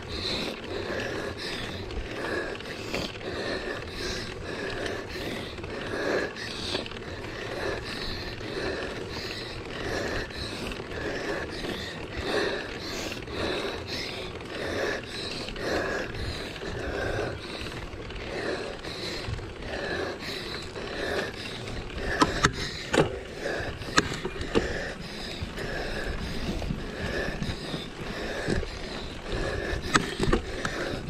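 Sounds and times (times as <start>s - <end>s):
mountain bike rattling: 0.0s - 31.0s.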